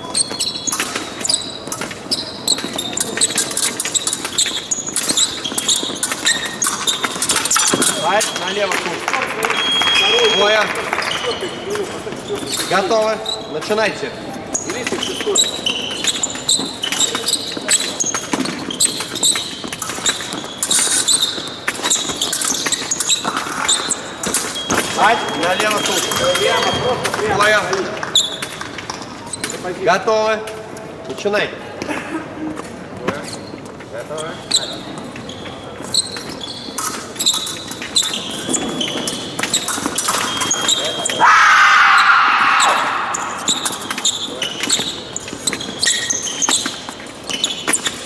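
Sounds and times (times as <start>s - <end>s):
shoe squeaks: 0.0s - 31.0s, 32.4s - 48.0s.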